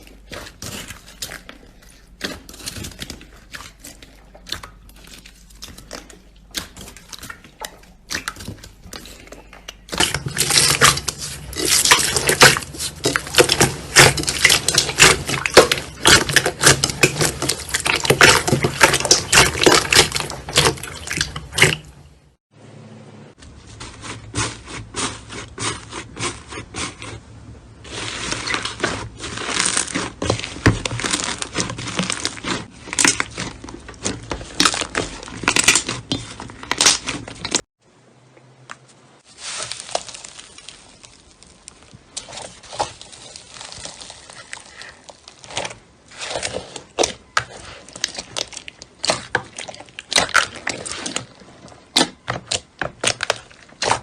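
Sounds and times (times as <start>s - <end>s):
slime crackling and popping: 0.0s - 22.1s, 27.9s - 37.6s, 39.2s - 54.0s.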